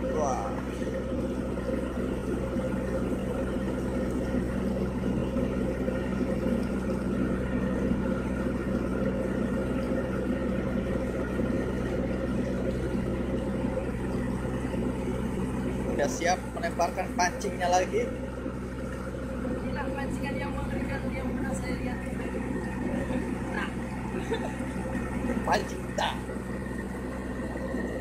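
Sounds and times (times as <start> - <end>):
ship machinery droning: 0.0 - 28.0.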